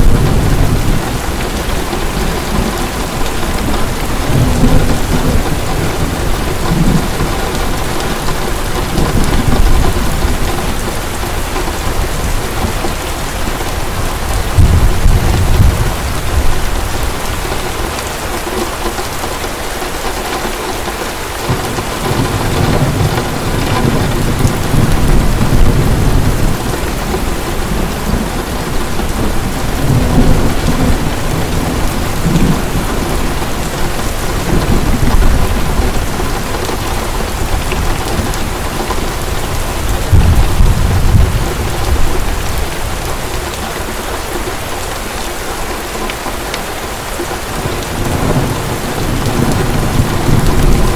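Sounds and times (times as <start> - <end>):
low thunder rolling: 0.0 - 17.9, 21.5 - 43.5, 47.6 - 50.9
heavy rain pouring: 0.0 - 50.9.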